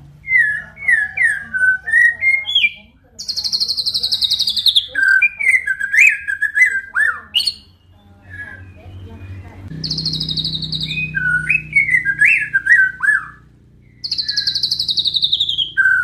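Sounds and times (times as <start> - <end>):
bird high trill: 0.2 - 16.0
bird singing whistled notes: 0.2 - 16.0.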